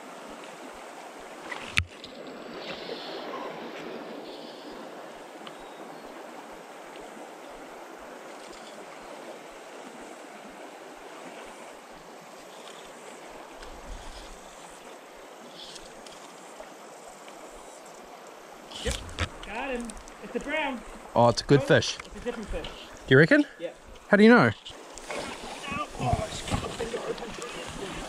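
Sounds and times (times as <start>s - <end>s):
creek water flowing: 0.0s - 28.0s.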